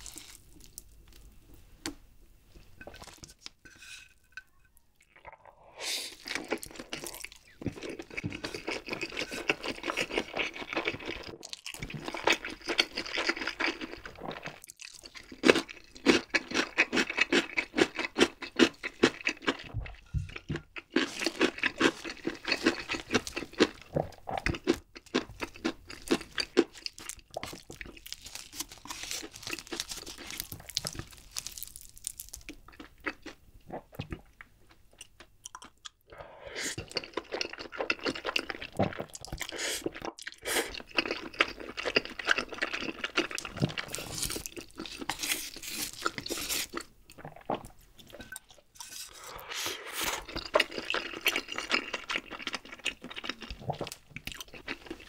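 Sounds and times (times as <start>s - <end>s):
close chewing of noodles: 0.0s - 1.2s, 5.0s - 55.0s.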